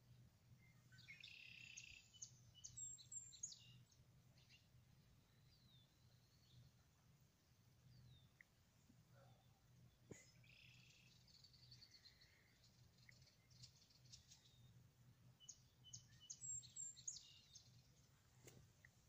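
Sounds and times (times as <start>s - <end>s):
birds chirping: 0.1s - 7.1s, 7.7s - 19.0s.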